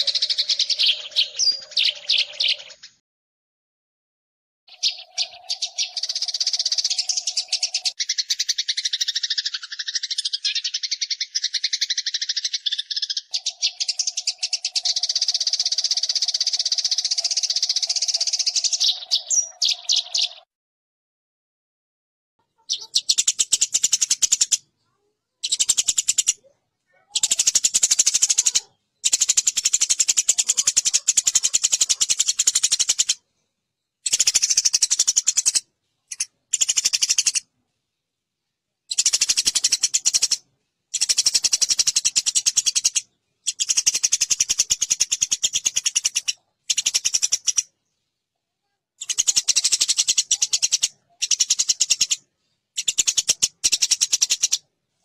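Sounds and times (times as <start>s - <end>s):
sparrows chattering chirps: 0.0s - 3.0s, 4.7s - 20.5s, 22.4s - 48.4s, 49.0s - 55.0s.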